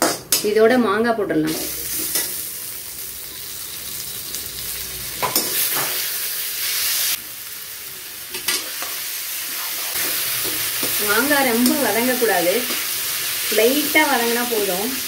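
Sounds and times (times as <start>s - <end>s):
food sizzling in hot oil: 1.5s - 15.0s.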